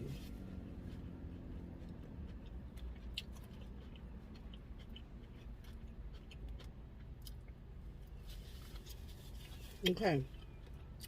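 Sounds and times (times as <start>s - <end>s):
low steady rumble: 0.0s - 11.0s
chewing with wet mouth clicks: 0.8s - 11.0s.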